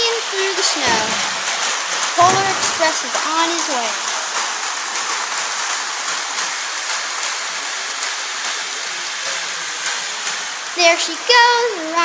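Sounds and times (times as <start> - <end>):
toy train wheels clacking on track: 0.0 - 12.0.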